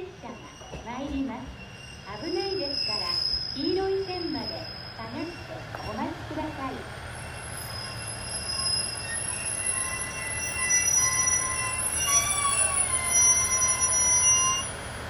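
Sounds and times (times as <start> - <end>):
diesel railcar engine rumbling: 0.0 - 15.0
wheels squealing: 0.0 - 15.0.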